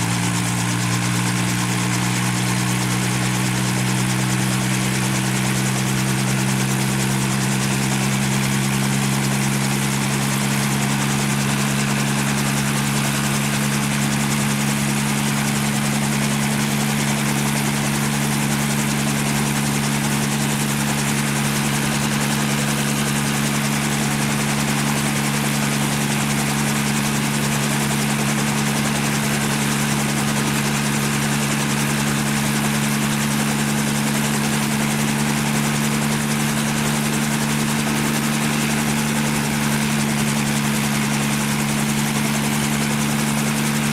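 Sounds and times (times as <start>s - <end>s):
helicopter drone: 0.0s - 43.9s.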